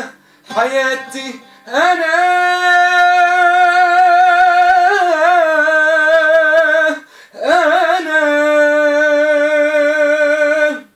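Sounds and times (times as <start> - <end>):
man singing a long note: 0.0 - 10.9.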